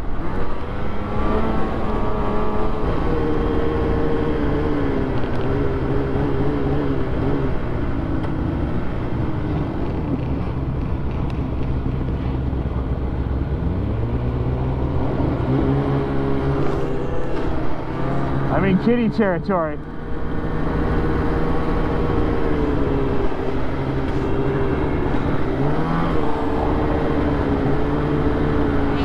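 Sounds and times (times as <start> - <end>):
snowmobile engine running: 0.0 - 29.0
track and wind noise: 0.0 - 29.0.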